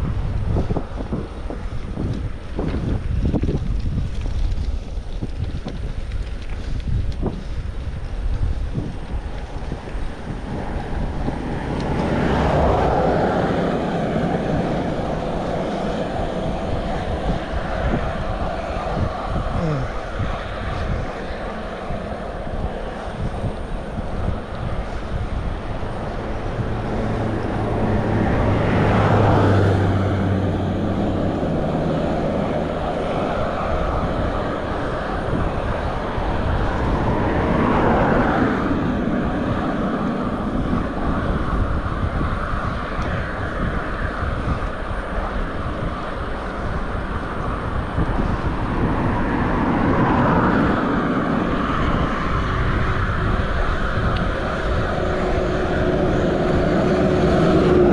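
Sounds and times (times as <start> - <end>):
vehicle passing on road: 0.0 - 57.9
wind noise on microphone: 0.0 - 57.9
car overtaking: 9.2 - 57.9.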